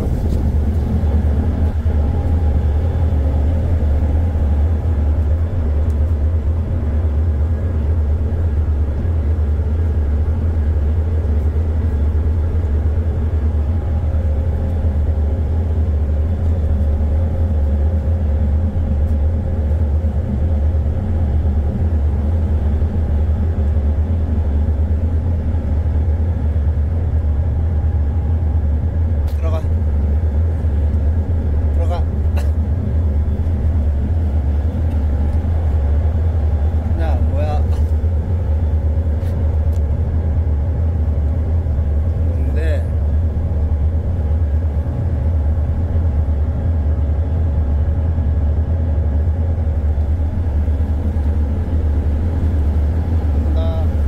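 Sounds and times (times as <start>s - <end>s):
ship engine droning: 0.0s - 54.0s.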